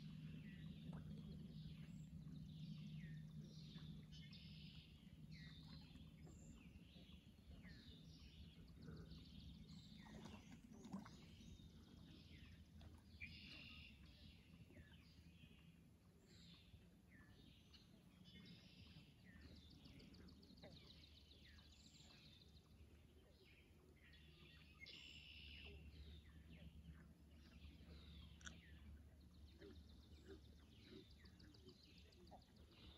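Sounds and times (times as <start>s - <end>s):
low steady hum: 0.0s - 32.9s
small birds chirping: 0.0s - 32.9s.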